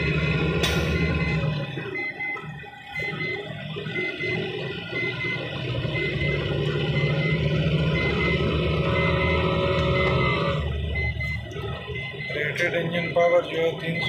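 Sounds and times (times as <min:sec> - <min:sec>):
diesel truck engine drone: 0:00.0 - 0:14.0.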